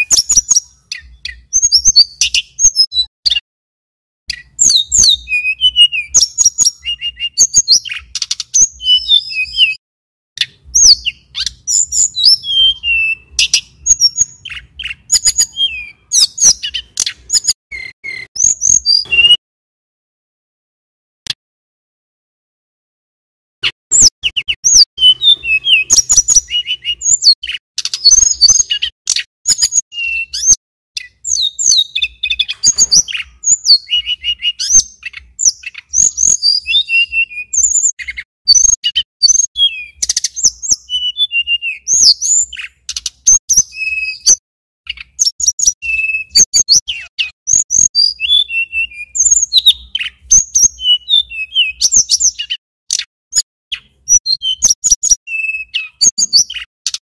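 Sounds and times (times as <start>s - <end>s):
bird singing whistled phrases: 0.0s - 3.4s, 4.3s - 9.8s, 10.4s - 19.4s, 23.6s - 57.0s.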